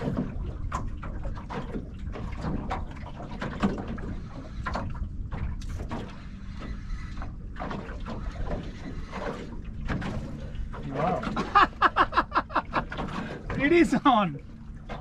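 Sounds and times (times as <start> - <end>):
boat knocks and rattles: 0.0 - 15.0
low rumble of wind and water: 0.0 - 15.0.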